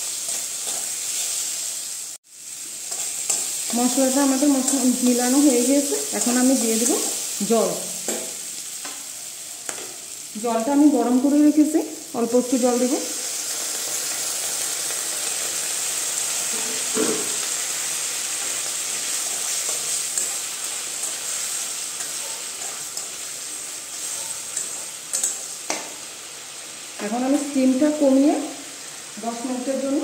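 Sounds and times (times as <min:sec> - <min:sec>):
food sizzling: 0:00.0 - 0:30.0.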